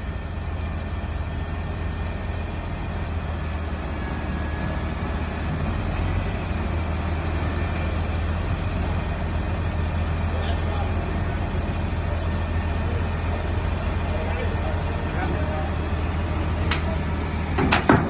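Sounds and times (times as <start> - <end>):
truck engine humming: 0.0 - 18.0.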